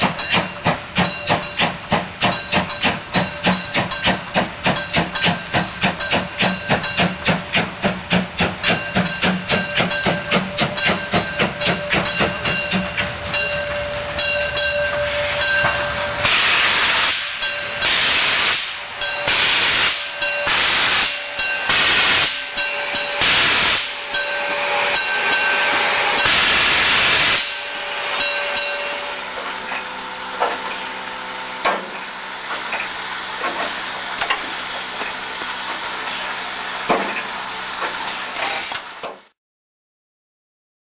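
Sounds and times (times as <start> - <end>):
steam locomotive hissing bursts: 0.0 - 39.3.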